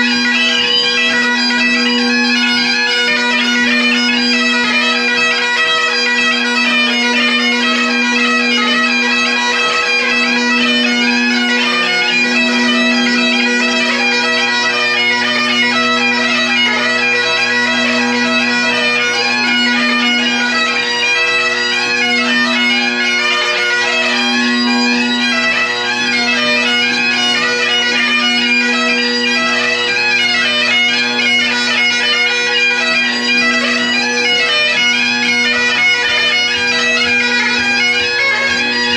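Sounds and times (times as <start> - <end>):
bagpipe playing: 0.0 - 38.9.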